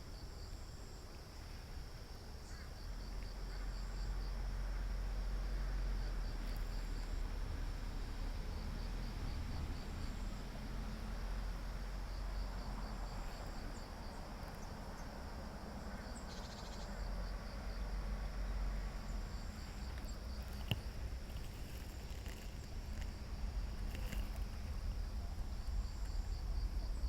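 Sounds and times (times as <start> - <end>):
constant low rumble: 0.0 - 27.0
insects chirping: 0.0 - 27.0.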